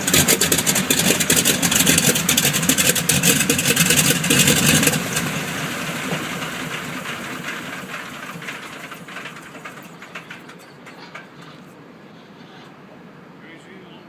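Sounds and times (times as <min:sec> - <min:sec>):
radial aircraft engine: 0:00.0 - 0:12.6.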